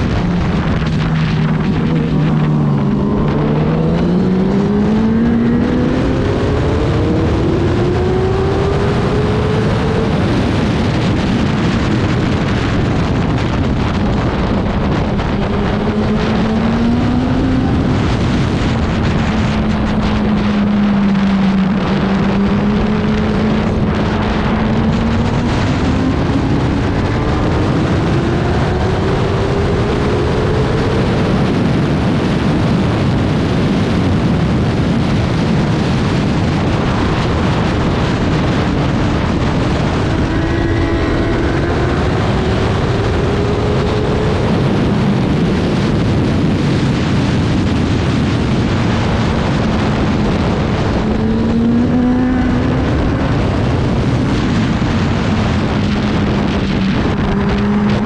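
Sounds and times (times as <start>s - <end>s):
racing motorcycle engine revving: 0.0s - 58.0s
wind noise on microphone: 0.0s - 58.0s.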